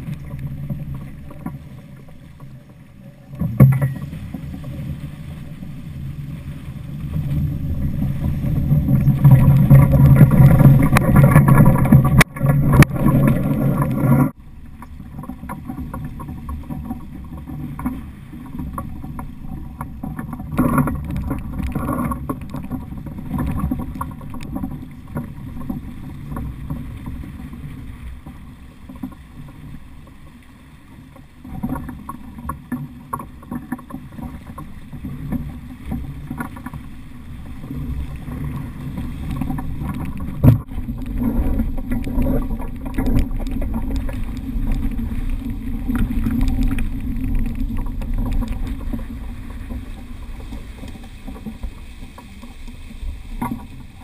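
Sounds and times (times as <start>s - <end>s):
water rushing along boat hull: 0.0s - 54.0s.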